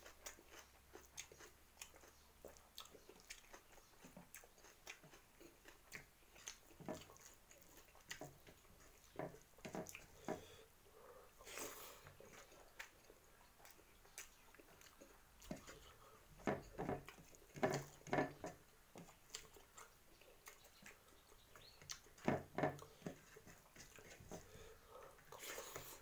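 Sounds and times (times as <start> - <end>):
person chewing with mouth clicks: 0.0 - 10.6, 11.4 - 26.0.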